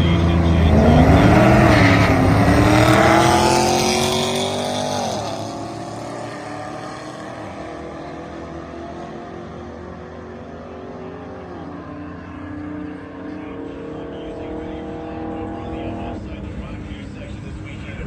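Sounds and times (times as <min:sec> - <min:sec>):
engine revving at full throttle: 0:00.0 - 0:17.8.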